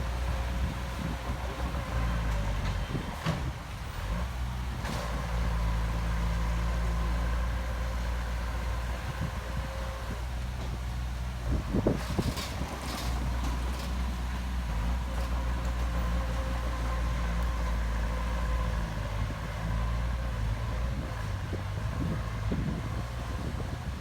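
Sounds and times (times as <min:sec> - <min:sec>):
diesel engine of earthmoving equipment: 0:00.0 - 0:24.0.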